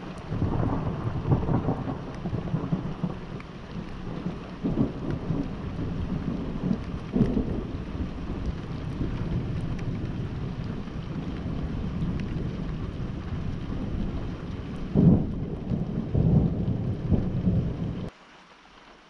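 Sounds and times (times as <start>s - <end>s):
thunder rumbling: 0.0s - 18.1s
steady rain: 0.0s - 19.0s.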